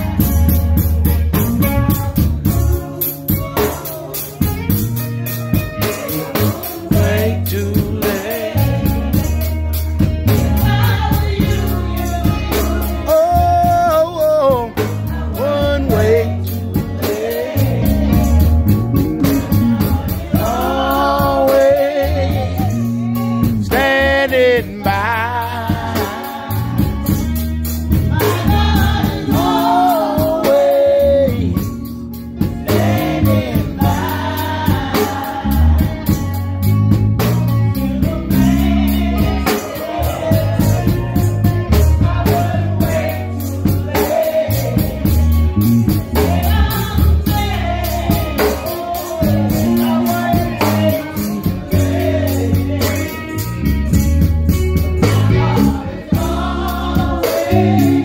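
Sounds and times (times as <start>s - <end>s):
electric guitar accompaniment: 0.0s - 58.0s
gospel singing: 0.0s - 58.0s.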